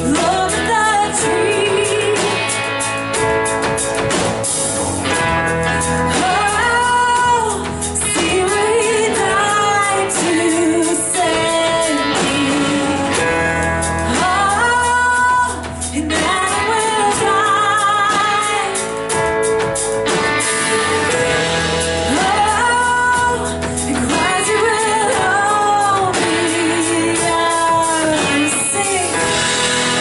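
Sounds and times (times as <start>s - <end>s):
worship band playing guitar: 0.0s - 30.0s.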